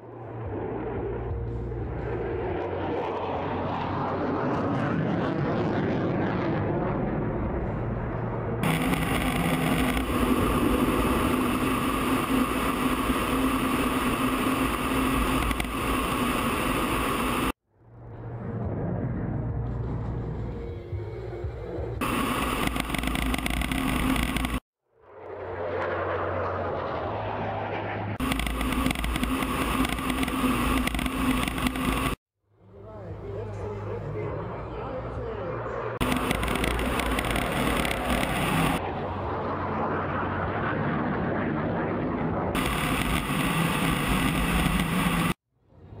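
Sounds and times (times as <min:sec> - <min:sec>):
constant hum: 0:00.0 - 0:46.0
jet engine roar: 0:00.0 - 0:46.0.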